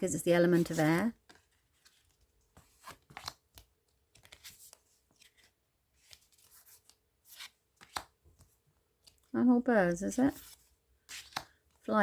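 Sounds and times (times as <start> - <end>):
cards rustling: 0.2 - 9.3, 9.9 - 12.0.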